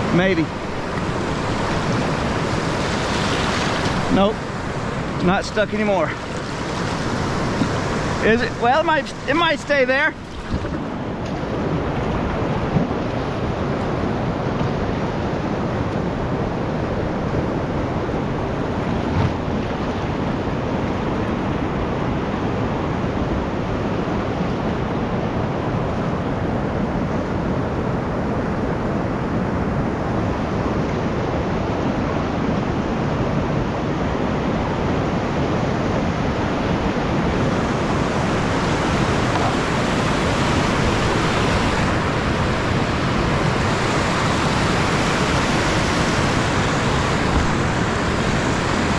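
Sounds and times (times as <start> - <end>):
whitewater rushing: 0.0 - 48.9.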